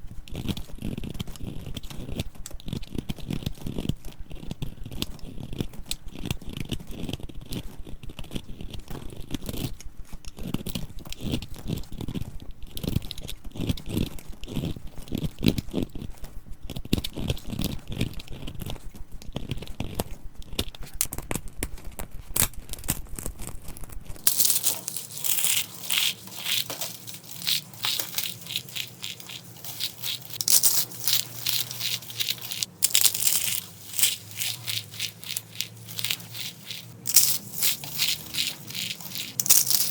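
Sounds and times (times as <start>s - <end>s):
dry soap crunching: 0.0s - 39.9s.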